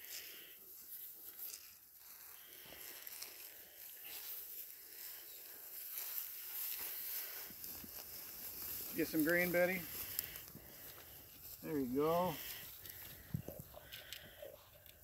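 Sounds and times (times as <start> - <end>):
rustling through dry grass: 0.0 - 15.0
sheep nibbling grain: 1.4 - 15.0.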